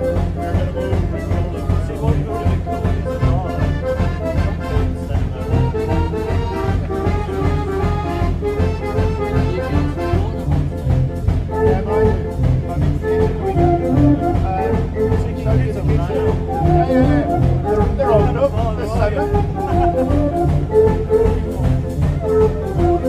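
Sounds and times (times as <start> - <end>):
dance organ playing a tune: 0.0 - 23.0
steady drum beat: 0.0 - 23.0.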